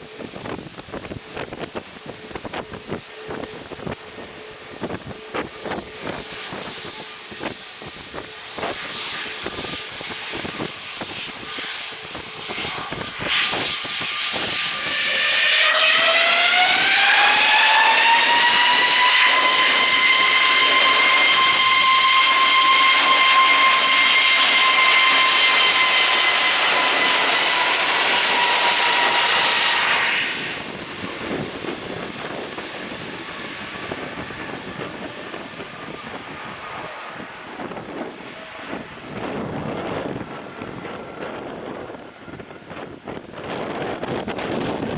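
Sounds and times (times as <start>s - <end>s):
jet engines spooling up: 0.0s - 44.9s
wind buffeting microphone: 0.0s - 44.9s.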